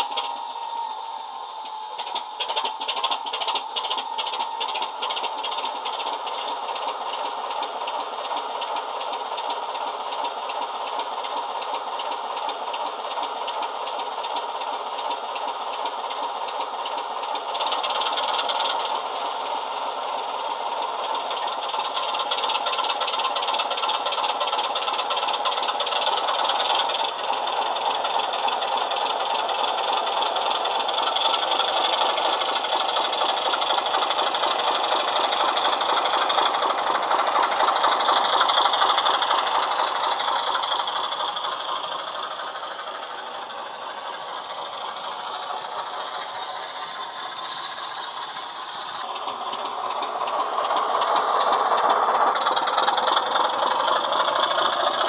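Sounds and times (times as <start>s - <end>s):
model locomotive diesel engine sound: 0.0s - 55.0s.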